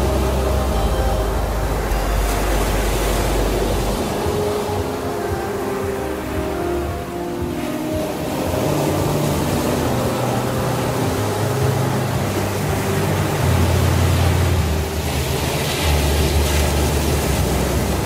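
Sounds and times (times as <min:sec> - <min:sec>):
ocean surf on beach: 0:00.0 - 0:18.0
slow ambient music: 0:00.0 - 0:18.0.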